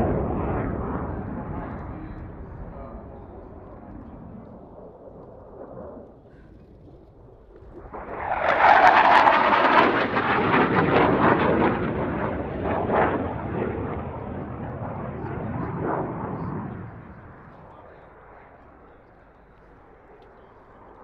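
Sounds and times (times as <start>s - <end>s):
jet passing low overhead: 0.0s - 21.0s.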